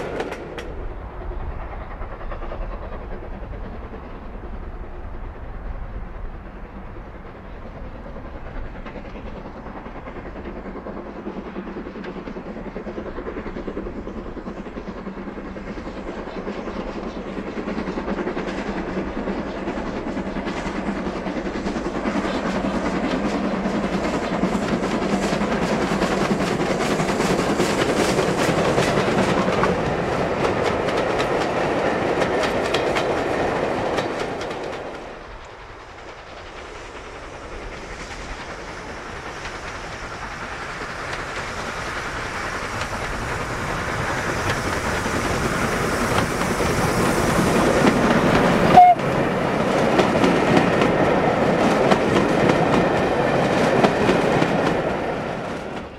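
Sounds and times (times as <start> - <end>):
steam locomotive exhaust beats: 0.0 - 55.9.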